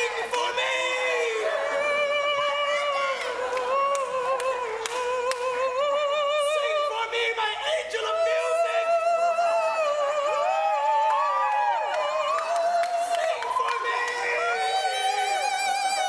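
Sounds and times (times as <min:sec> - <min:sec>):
man singing with vibrato: 0:00.0 - 0:11.0, 0:12.0 - 0:16.0.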